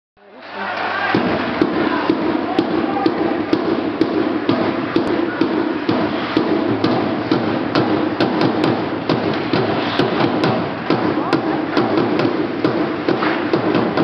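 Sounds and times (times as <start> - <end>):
hockey rink noise: 0.2 - 14.0
steady thumping beat: 1.1 - 14.0.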